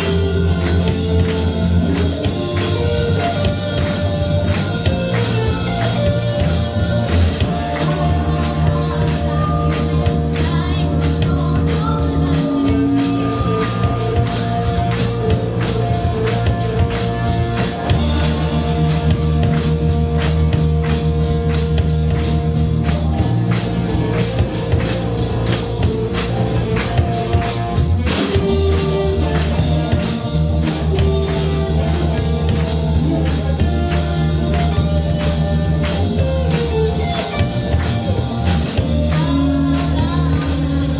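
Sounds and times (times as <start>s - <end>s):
bass guitar: 0.0s - 40.9s
drum kit beat: 0.0s - 40.9s
electric guitar: 0.0s - 40.9s.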